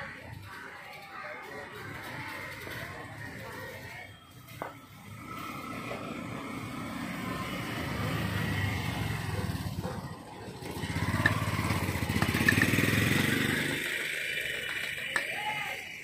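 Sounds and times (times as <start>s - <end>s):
auto-rickshaw engine passing: 0.0s - 16.0s.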